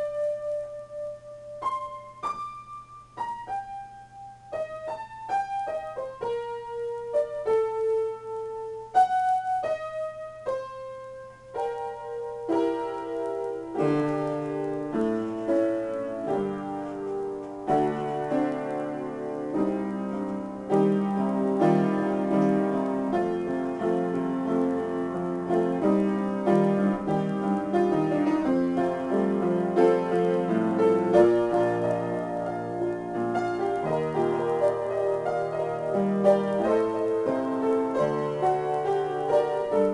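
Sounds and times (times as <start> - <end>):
solo piano improvisation: 0.0 - 39.9.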